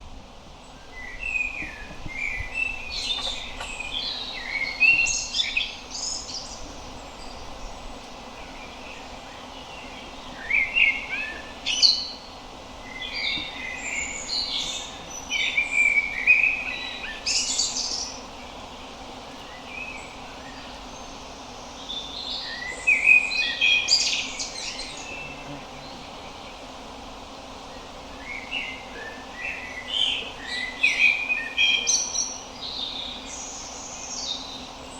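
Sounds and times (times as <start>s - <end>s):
faint steady hiss: 0.0s - 34.9s.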